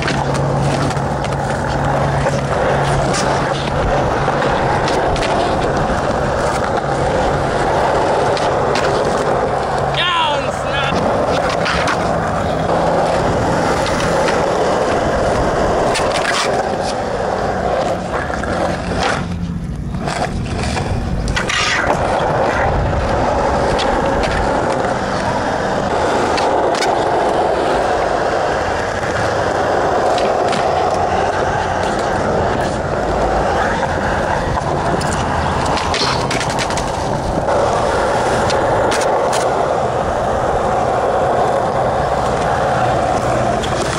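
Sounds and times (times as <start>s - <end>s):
skateboard clacking on ground: 0.0s - 43.9s
skateboard wheels rolling on concrete: 0.0s - 43.9s.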